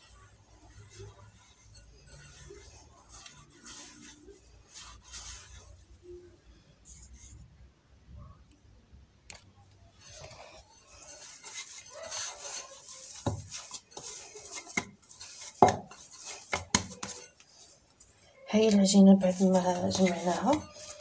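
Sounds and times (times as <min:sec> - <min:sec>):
hands kneading dough in bowl: 0:00.0 - 0:06.2, 0:09.9 - 0:21.0.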